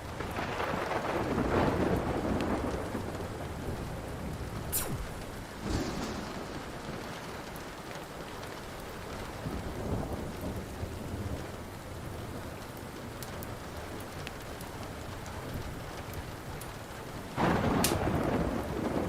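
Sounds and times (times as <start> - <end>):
thunder rumbling: 0.0 - 14.2, 17.3 - 19.0
steady rain: 0.0 - 19.0
wood fire crackling: 0.0 - 19.0.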